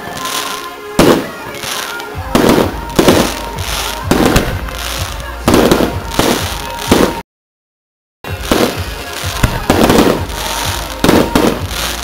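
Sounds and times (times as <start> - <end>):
firework bangs: 0.0 - 7.2, 8.3 - 12.0
firework hiss: 0.0 - 7.2, 8.3 - 12.0.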